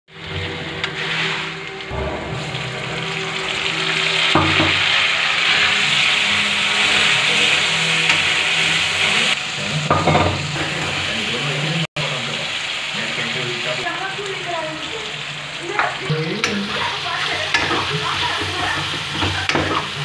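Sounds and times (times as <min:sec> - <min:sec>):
oil sizzling in pan: 0:00.1 - 0:20.0.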